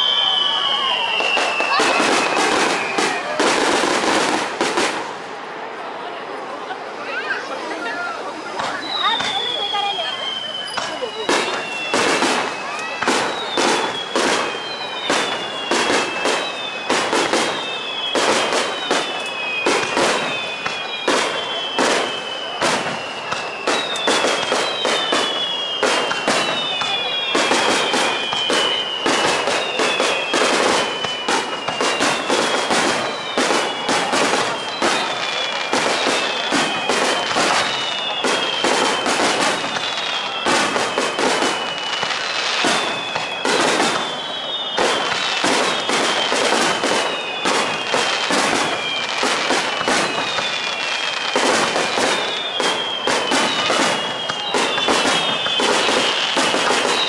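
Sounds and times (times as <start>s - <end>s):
firework whistles gliding down: 0.0s - 5.1s, 7.0s - 57.0s
fireworks bursting: 0.0s - 57.0s.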